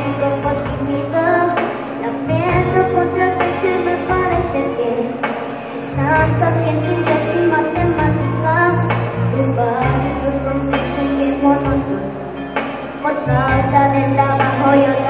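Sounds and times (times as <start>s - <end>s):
woman singing: 0.0s - 12.2s, 13.0s - 15.0s
pop ballad backing track: 0.0s - 15.0s.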